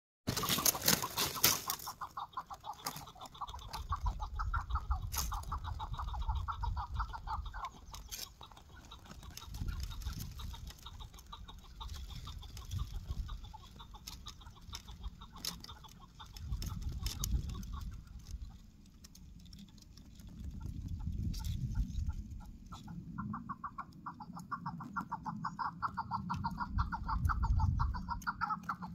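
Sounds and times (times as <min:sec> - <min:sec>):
partridge clucking calls: 0:00.3 - 0:28.9.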